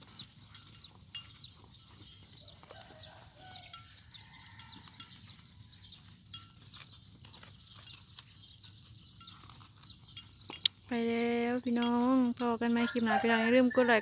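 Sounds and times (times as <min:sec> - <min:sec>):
small clinks: 0:00.0 - 0:13.8.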